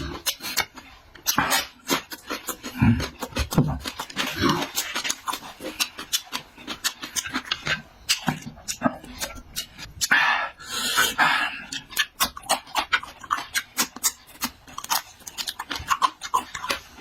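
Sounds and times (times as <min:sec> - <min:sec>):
person chewing and mouth smacking: 0:00.0 - 0:17.0.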